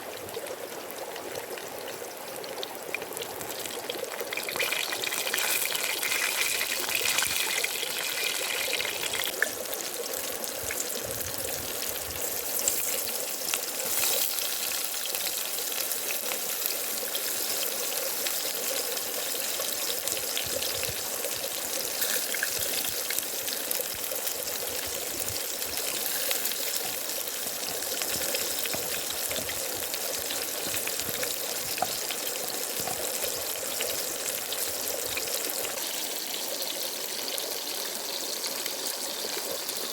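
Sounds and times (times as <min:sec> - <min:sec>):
food sizzling in oil: 0:03.0 - 0:39.9.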